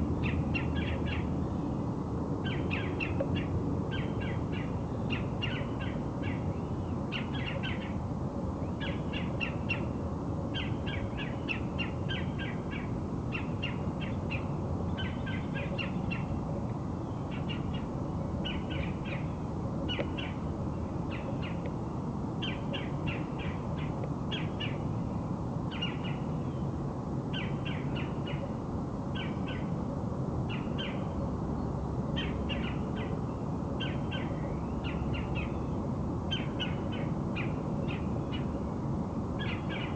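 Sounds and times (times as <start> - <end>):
birds calling: 0.2 - 1.7, 2.4 - 8.0, 8.6 - 16.4, 17.0 - 24.9, 25.7 - 29.7, 32.1 - 38.6.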